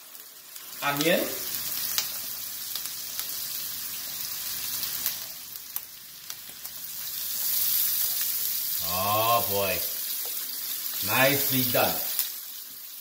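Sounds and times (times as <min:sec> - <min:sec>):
oil sizzling in frying pans: 0:00.0 - 0:13.0.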